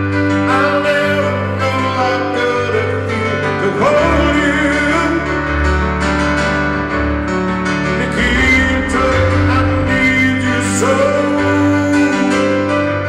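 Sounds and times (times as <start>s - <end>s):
man singing: 0.0s - 5.8s, 7.8s - 13.0s
live pop-rock band with piano: 0.0s - 13.0s.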